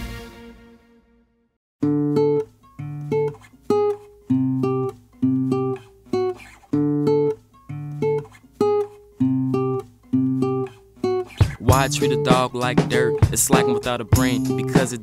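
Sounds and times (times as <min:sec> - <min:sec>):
guitar playing rhythmic chords: 0:01.8 - 0:15.0.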